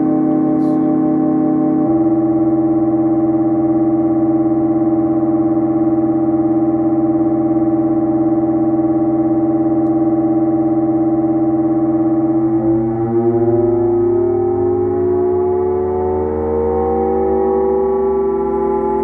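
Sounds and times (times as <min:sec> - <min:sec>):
buzzy synthesizer drone: 0:00.0 - 0:19.0.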